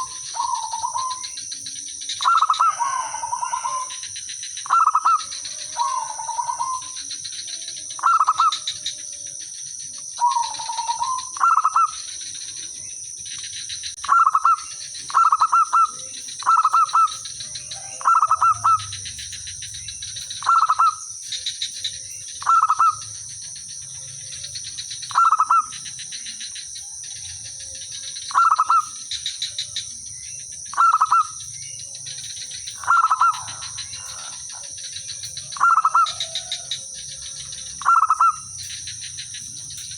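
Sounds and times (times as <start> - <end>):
doves cooing: 0.0 - 39.9
steady high-pitched whine: 0.0 - 39.9.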